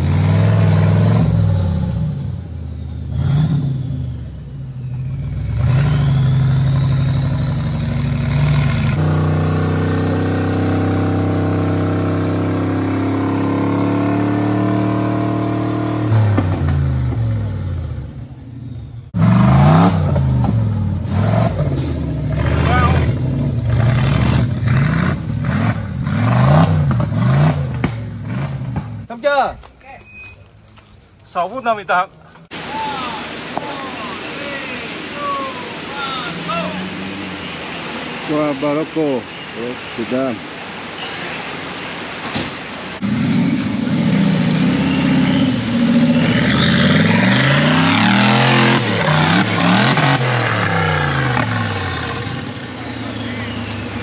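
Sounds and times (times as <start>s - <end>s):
race vehicle engine revving: 0.0s - 29.1s, 34.9s - 39.2s, 42.9s - 54.0s.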